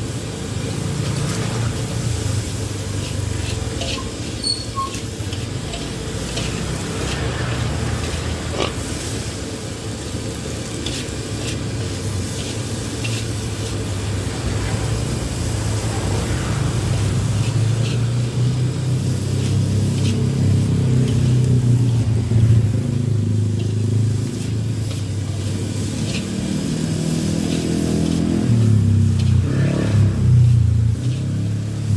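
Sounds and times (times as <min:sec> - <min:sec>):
food sizzling in a wok: 0:00.0 - 0:31.9.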